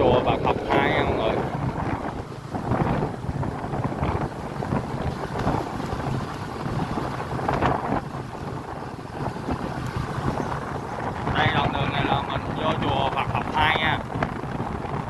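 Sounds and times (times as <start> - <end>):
vehicle rumble on road: 0.0 - 15.0
wind buffeting microphone: 0.0 - 15.0.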